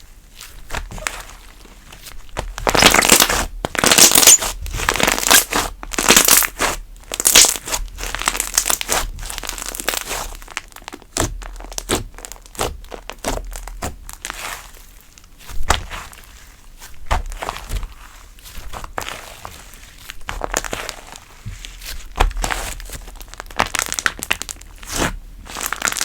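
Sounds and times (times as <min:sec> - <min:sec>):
hands squishing slime: 0:00.3 - 0:26.0.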